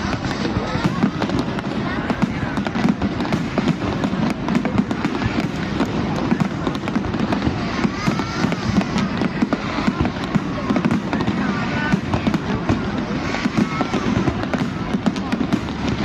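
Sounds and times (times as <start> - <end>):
crowd voices: 0.0 - 16.0
fireworks crackling and booming: 0.0 - 16.0.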